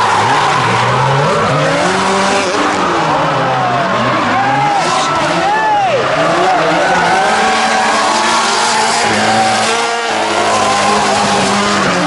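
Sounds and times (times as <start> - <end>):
car engines at high revs: 0.0 - 12.0.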